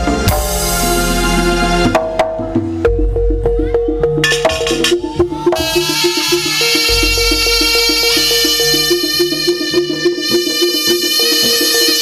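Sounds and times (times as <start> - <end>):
pitched percussion strokes: 2.4 - 12.0.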